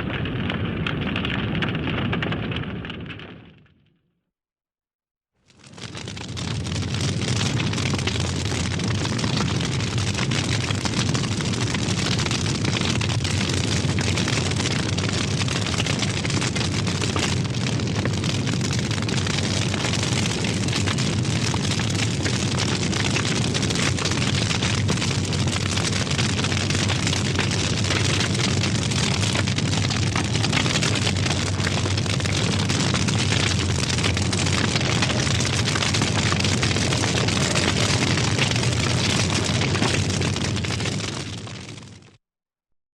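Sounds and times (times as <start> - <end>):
fire roaring and crackling: 0.0 - 3.7, 5.5 - 42.0.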